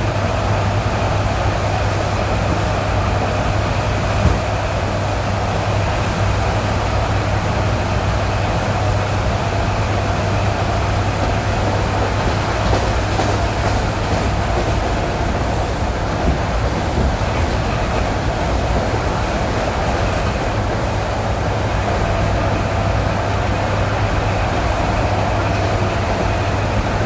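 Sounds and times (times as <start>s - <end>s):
train wheels rumbling and humming: 0.0s - 27.0s.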